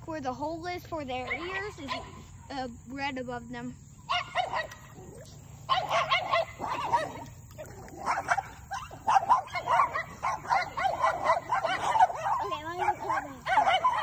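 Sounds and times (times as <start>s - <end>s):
dogs yelping and barking: 1.1s - 2.4s, 4.0s - 14.0s.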